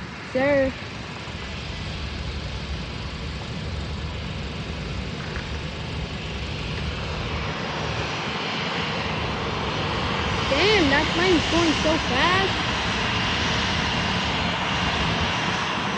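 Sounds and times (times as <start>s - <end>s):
jet engine roar: 0.0s - 15.9s.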